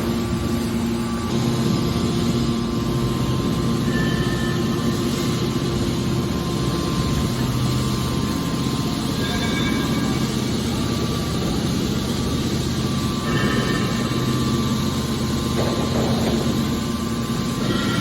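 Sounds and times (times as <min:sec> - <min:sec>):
baling press machine drone: 0:00.0 - 0:18.0.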